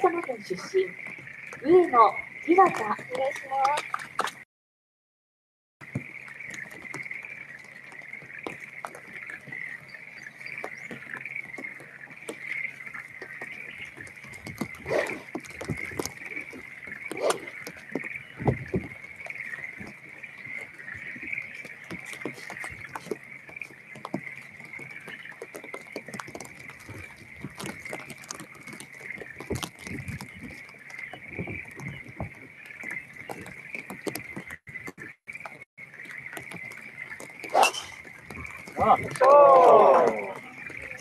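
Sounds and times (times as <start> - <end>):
raindrops ticking: 0.0 - 4.4, 5.8 - 41.0.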